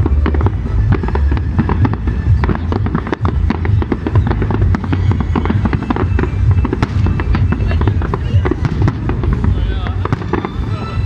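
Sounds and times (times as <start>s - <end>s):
fireworks bangs and crackles: 0.0s - 11.0s
low rumble: 0.0s - 11.0s.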